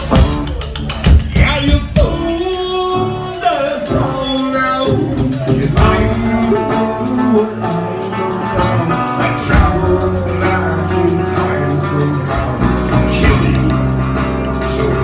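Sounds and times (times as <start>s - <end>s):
drum kit and cymbals: 0.0s - 15.0s
electric guitar: 0.0s - 15.0s
person singing: 0.0s - 15.0s.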